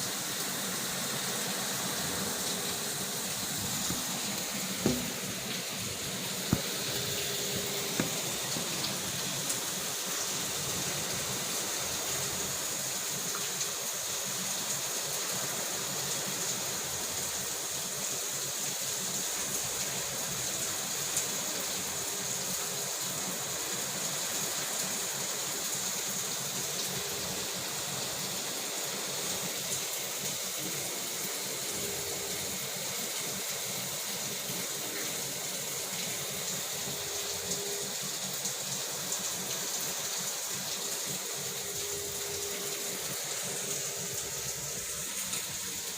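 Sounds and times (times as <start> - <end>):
drips and splashes: 0.0 - 45.9
heavy rain pouring: 0.0 - 45.9.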